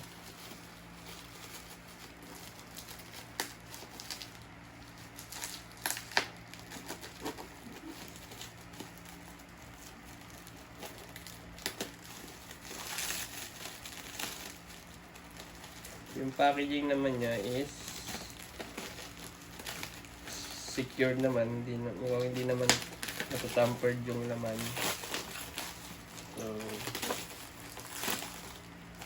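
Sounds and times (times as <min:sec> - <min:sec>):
packaging crinkling and tearing: 0:00.0 - 0:29.0
packaging rustling: 0:00.0 - 0:29.0.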